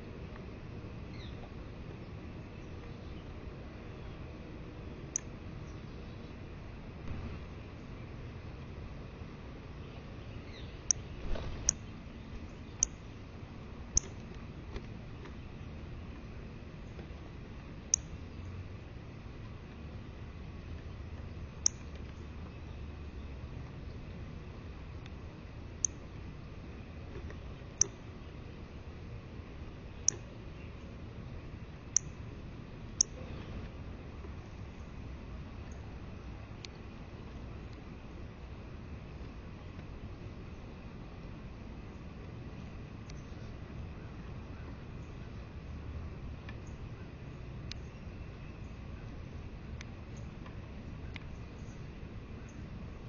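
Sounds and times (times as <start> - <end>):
steady background hiss: 0.0 - 53.0.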